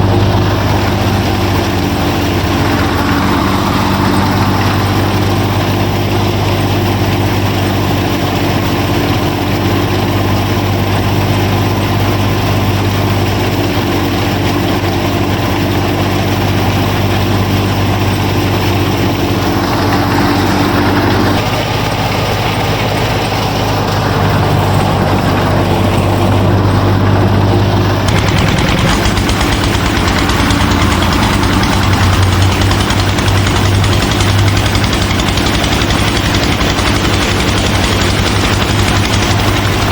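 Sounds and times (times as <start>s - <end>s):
tractor and thresher machine drone: 0.0s - 39.9s.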